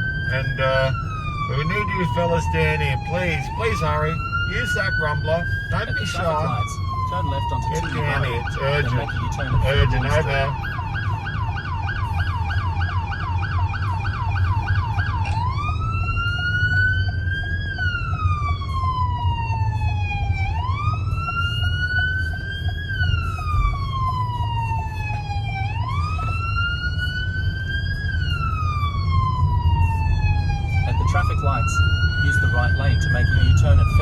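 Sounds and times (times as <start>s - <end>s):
emergency vehicle siren: 0.0s - 34.0s
steady low rumble: 0.0s - 34.0s.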